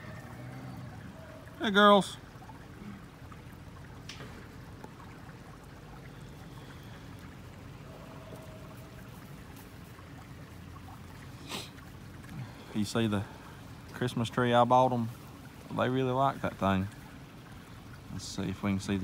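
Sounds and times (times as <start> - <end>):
creek trickling: 0.0 - 19.0.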